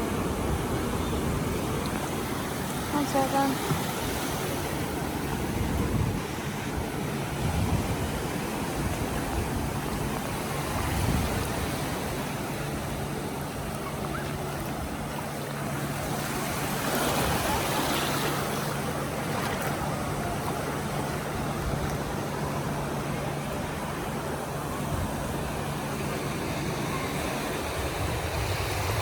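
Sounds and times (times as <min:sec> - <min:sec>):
ocean surf washing onto beach: 0:00.0 - 0:29.0
wind buffeting microphone: 0:00.0 - 0:29.0.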